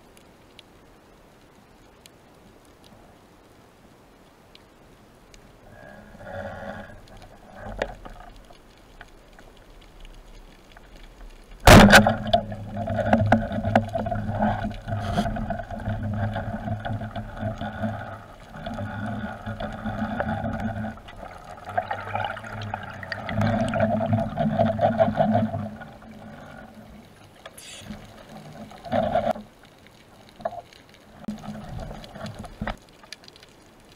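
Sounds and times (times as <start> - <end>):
rush of water: 5.3 - 33.9.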